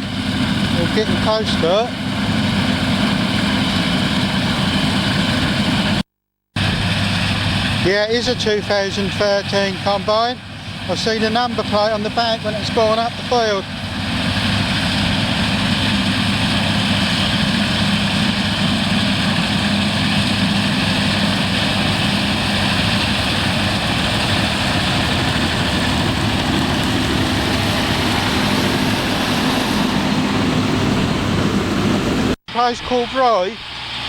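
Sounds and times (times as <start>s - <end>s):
combine harvester droning: 0.0s - 6.0s, 6.6s - 34.0s
low engine hum: 6.6s - 34.0s.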